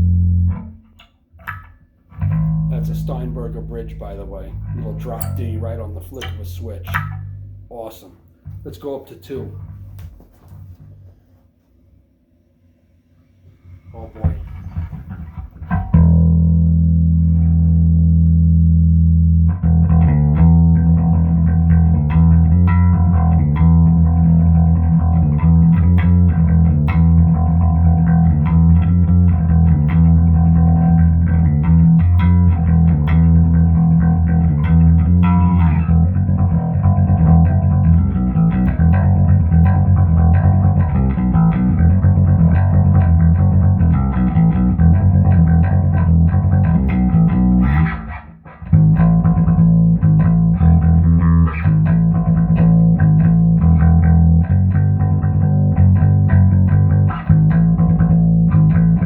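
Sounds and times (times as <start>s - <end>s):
electric bass plucked notes: 0.0s - 10.1s, 13.9s - 59.0s.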